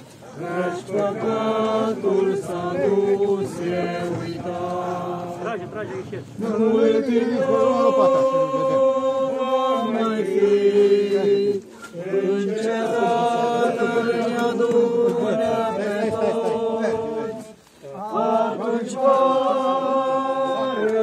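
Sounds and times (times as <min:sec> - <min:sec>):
group singing a slow hymn: 0:00.0 - 0:21.0.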